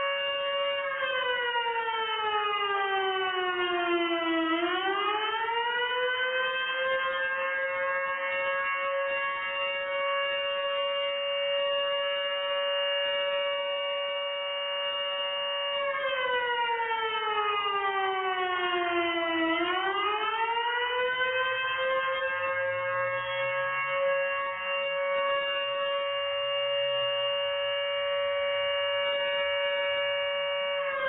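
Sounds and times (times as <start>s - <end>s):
alert siren: 0.0s - 31.0s.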